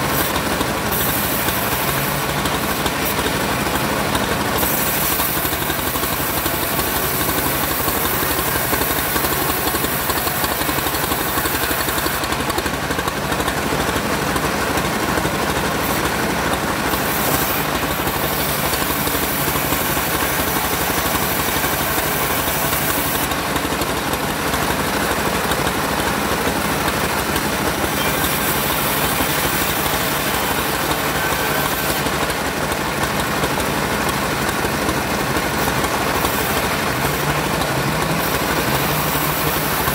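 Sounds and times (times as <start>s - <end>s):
bandsaw sawing wood: 0.0s - 39.9s.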